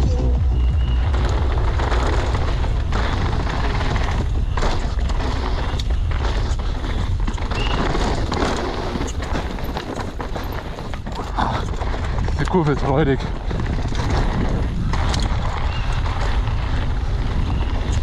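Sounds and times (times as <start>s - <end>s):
wind rumble on microphone: 0.0s - 18.0s
tyres crunching over dirt: 0.2s - 18.0s
bike knocking over bumps: 0.8s - 18.0s.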